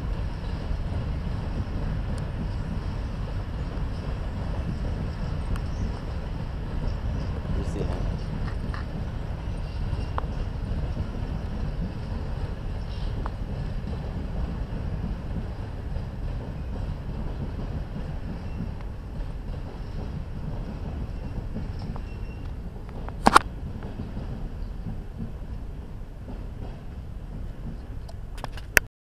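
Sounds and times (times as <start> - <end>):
train rumbling: 0.0 - 28.9.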